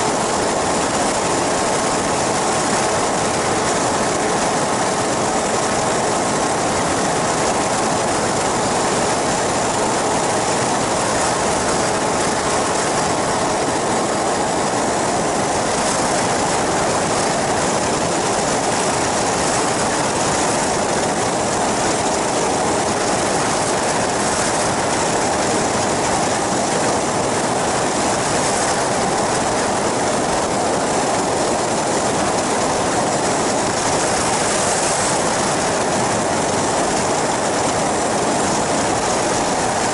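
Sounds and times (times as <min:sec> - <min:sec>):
aircraft engine and propeller: 0:00.0 - 0:39.9
airflow rushing over microphone: 0:00.0 - 0:39.9.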